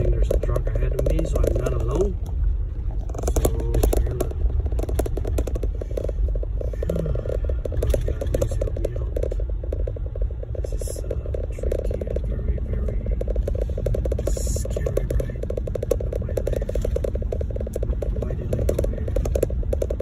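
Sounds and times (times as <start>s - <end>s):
rattling and clatter: 0.0s - 20.0s
truck engine and tyres rumbling: 0.0s - 20.0s.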